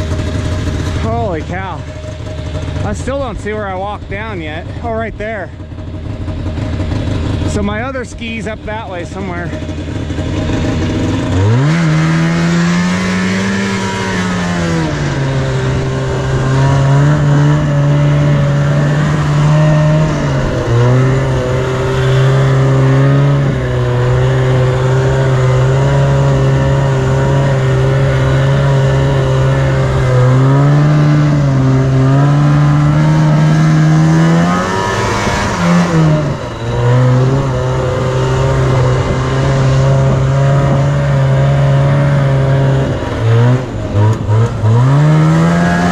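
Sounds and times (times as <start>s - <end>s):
snowmobile engine revving high: 0.0s - 45.9s.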